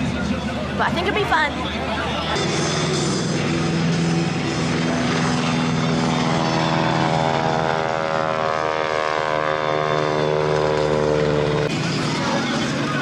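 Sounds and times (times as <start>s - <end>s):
propeller airplane engine droning: 0.0s - 13.0s.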